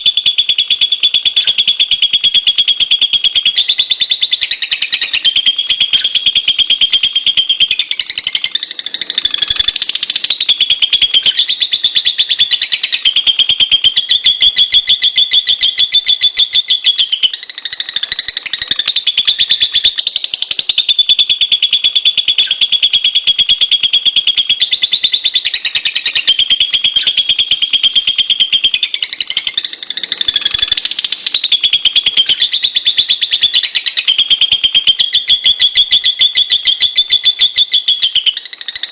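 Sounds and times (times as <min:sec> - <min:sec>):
lovebird chirping chatter: 0:00.0 - 0:38.9.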